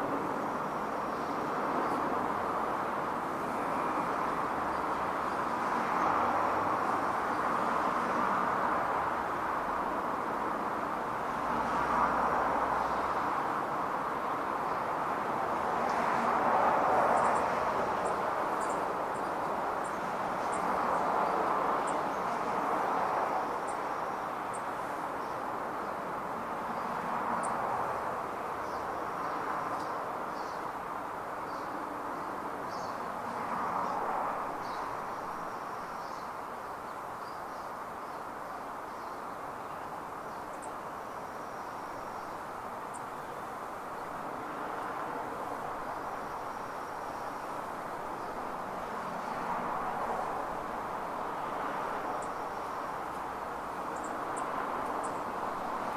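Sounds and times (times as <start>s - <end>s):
road traffic hum: 0.0s - 55.9s.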